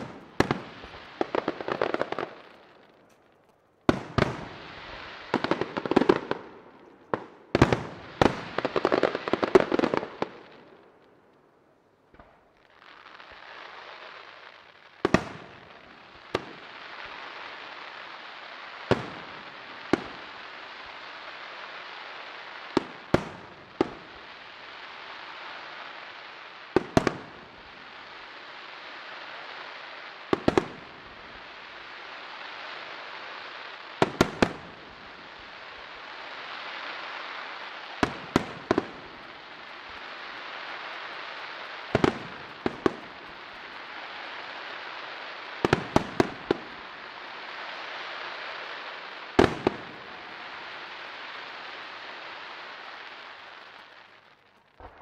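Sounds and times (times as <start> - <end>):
fireworks bursting bangs: 0.0 - 10.9, 12.1 - 55.0
steady hiss: 0.0 - 55.0.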